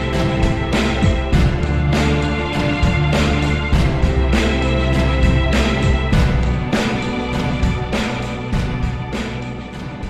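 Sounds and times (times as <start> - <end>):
music with held chords and beat: 0.0 - 10.0.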